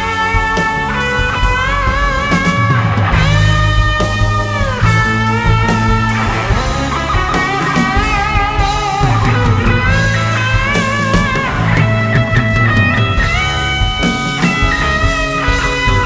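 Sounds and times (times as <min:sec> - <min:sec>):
electric guitar lead: 0:00.0 - 0:16.0
rock band playing: 0:00.0 - 0:16.0.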